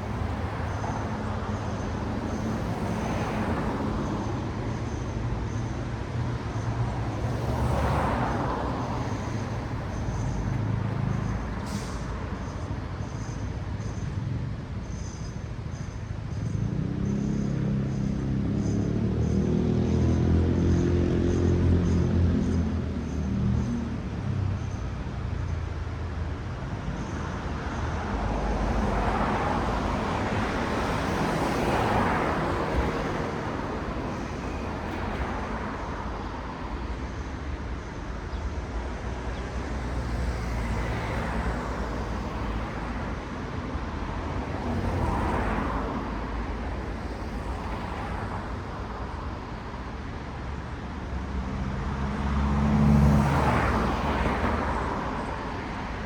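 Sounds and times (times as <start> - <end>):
cars passing: 0.0 - 14.4, 16.5 - 56.0
steady traffic hum: 0.0 - 56.0.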